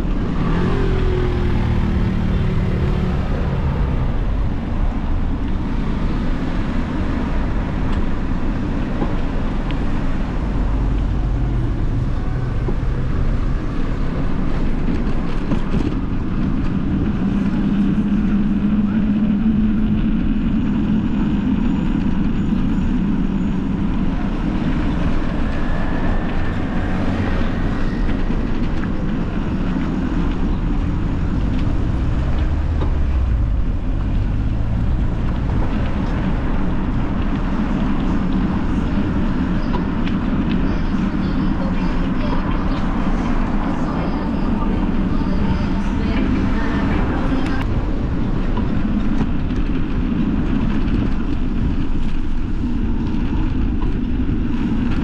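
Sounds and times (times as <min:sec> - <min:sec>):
street traffic: 0:00.0 - 0:55.0
wind rumble on microphone: 0:00.0 - 0:55.0.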